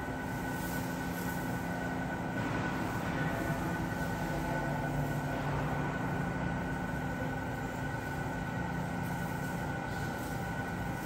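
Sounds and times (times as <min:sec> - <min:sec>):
steady mechanical hum and rumble: 0:00.0 - 0:11.0.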